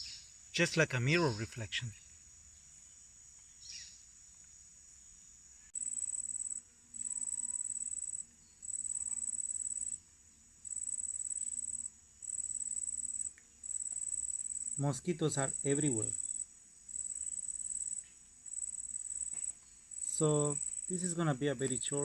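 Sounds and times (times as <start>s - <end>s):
insect trilling: 0.0s - 22.0s.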